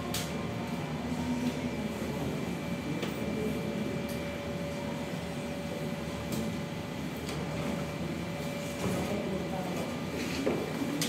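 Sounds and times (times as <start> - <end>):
continuous hum and hiss: 0.0 - 11.0.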